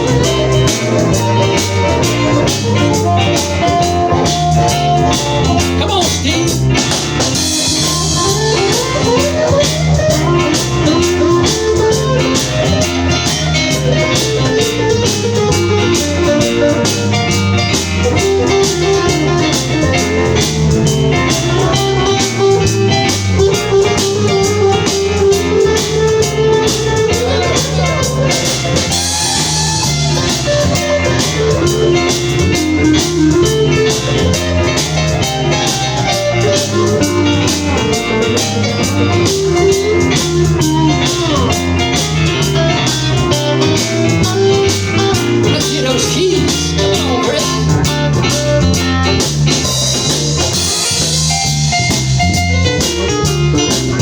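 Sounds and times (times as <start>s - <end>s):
bass guitar: 0.0s - 54.0s
drum kit: 0.0s - 54.0s
electric guitar solo: 0.0s - 54.0s.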